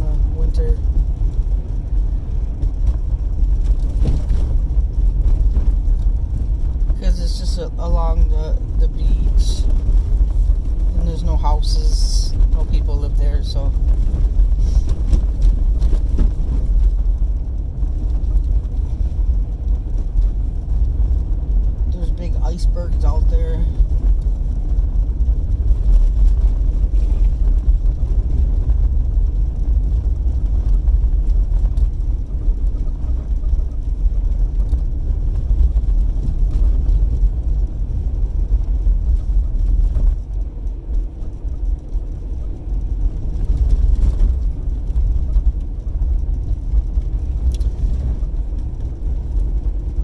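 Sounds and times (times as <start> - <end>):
car cabin road rumble: 0.0 - 50.0.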